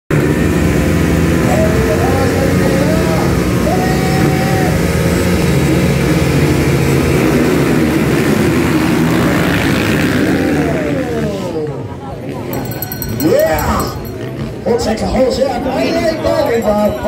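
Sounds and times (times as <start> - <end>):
dirt bikes revving: 0.1 - 17.0.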